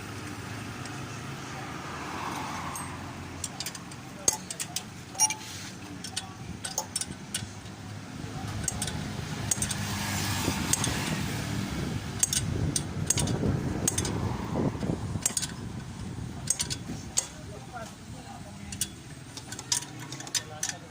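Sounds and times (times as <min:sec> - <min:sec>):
light metallic clicks and clinks: 0:02.2 - 0:11.1, 0:12.2 - 0:14.2, 0:15.2 - 0:20.9.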